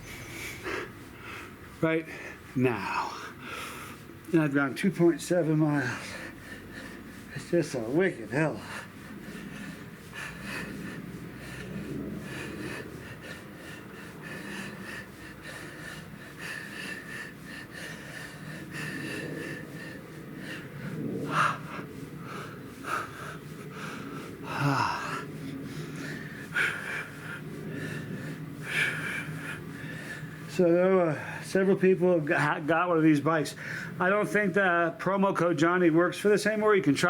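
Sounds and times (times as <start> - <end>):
man breathing heavily: 0.0 - 36.9.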